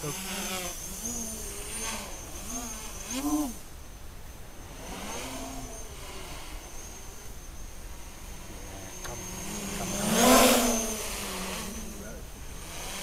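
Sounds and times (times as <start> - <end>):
quadcopter motors buzzing: 0.0 - 13.0.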